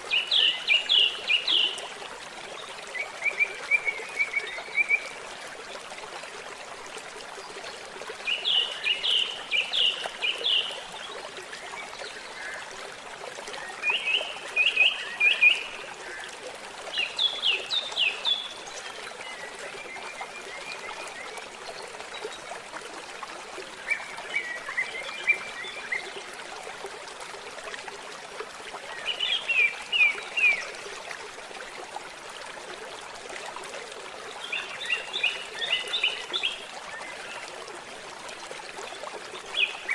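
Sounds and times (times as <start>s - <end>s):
stream trickling and gurgling: 0.0s - 39.9s.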